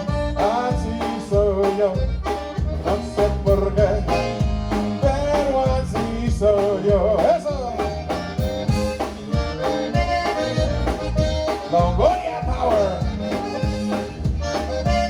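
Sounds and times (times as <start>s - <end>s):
accordion melody: 0.0s - 15.0s
bass: 0.0s - 15.0s
drums with steady beat: 0.0s - 15.0s.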